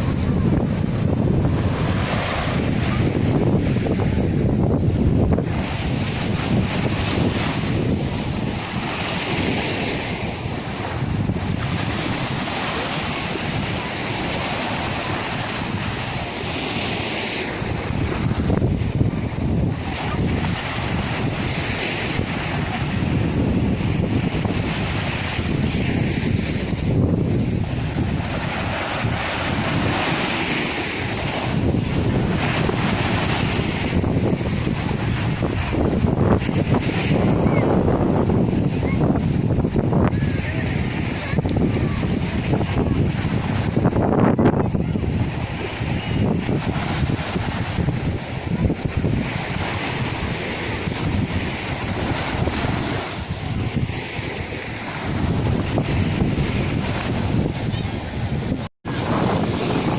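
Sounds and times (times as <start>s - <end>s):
sea waves washing in: 0.0s - 59.9s
surf hissing: 0.0s - 59.9s
wind buffeting microphone: 0.0s - 59.9s.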